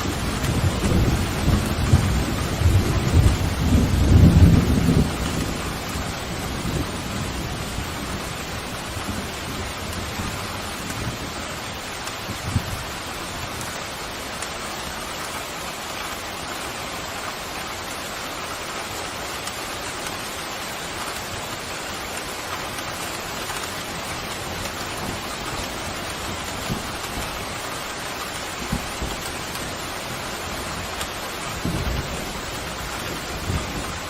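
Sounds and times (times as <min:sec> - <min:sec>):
pouring rain hissing: 0:00.0 - 0:34.0.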